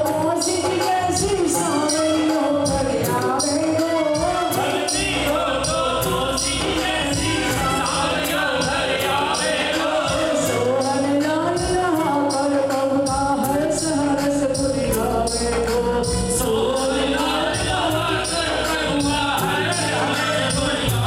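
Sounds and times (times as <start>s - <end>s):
jingling percussion beat: 0.0s - 13.7s, 14.6s - 21.0s
devotional singing: 0.0s - 21.0s
instrumental music: 0.0s - 21.0s.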